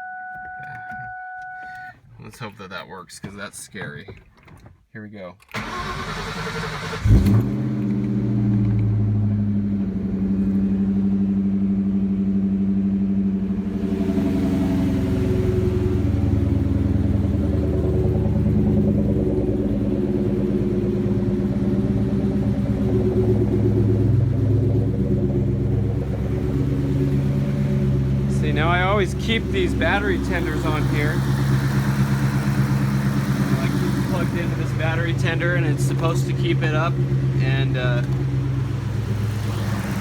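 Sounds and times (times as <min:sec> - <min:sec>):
car engine starting and idling: 0:00.0 - 0:40.0.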